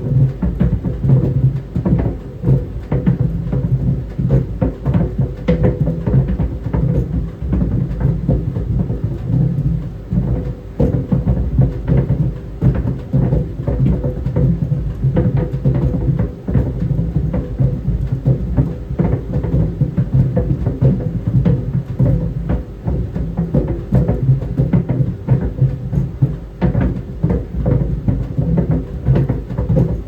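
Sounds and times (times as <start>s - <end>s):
balls thudding in dryer drum: 0.0s - 30.0s
dryer drum humming: 0.0s - 30.0s.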